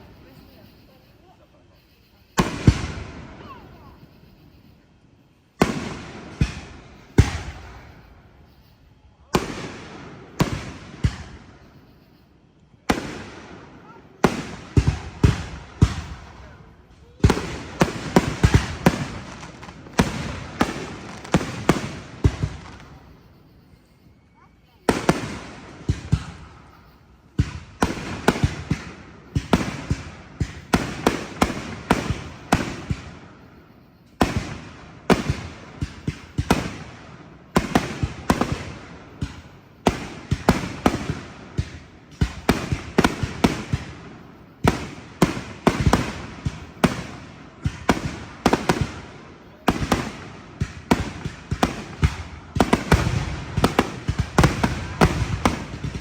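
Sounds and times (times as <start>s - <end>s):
fireworks bangs and crackling: 2.3s - 56.0s.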